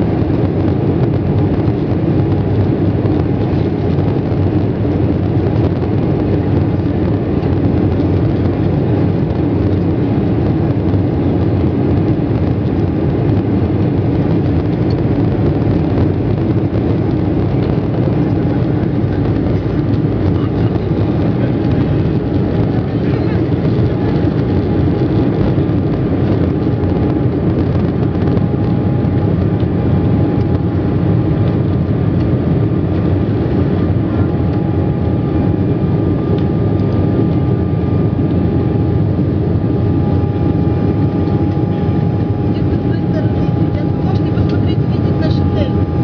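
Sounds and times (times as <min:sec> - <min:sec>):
faint engine whine: 0:00.0 - 0:46.0
jet engines rumbling in cabin: 0:00.0 - 0:46.0.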